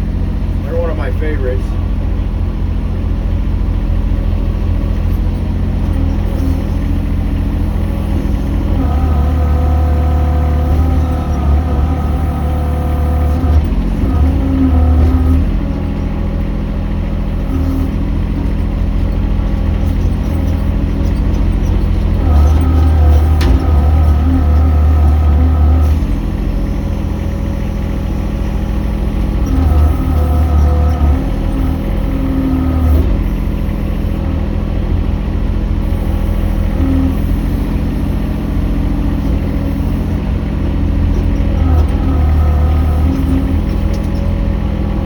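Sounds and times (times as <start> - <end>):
hydraulic whine: 0.0 - 45.0
mini excavator engine running: 0.0 - 45.0.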